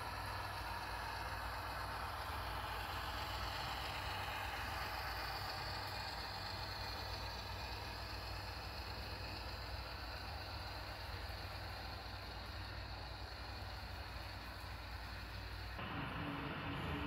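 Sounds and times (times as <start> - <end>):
model train diesel engine sound: 0.0 - 17.0
room noise hiss: 0.0 - 17.0.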